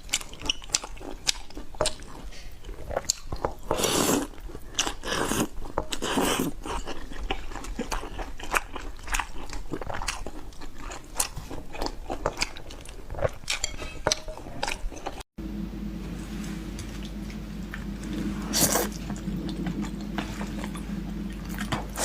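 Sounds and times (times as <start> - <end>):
crunchy food being chewed: 0.0 - 15.2, 16.7 - 22.0.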